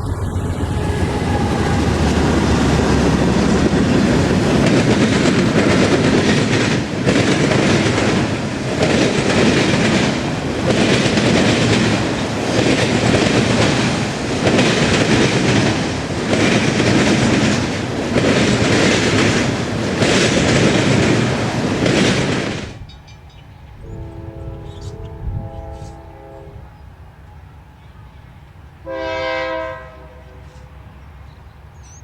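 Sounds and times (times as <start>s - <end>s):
freight train wheels clacking: 0.0s - 29.2s.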